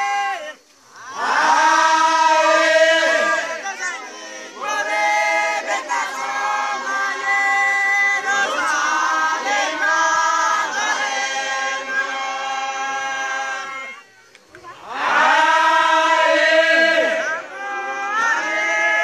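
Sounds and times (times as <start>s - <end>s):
men's choir singing a hymn: 0.0s - 14.0s, 14.7s - 19.0s.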